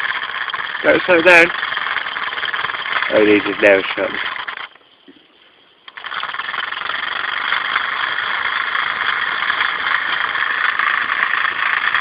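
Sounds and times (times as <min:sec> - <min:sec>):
model steam engine chuffing: 0:00.0 - 0:04.8, 0:05.9 - 0:12.0.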